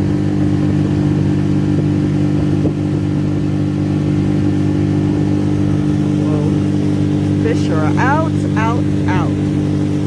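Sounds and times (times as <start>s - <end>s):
boat motor idling: 0.0s - 10.0s.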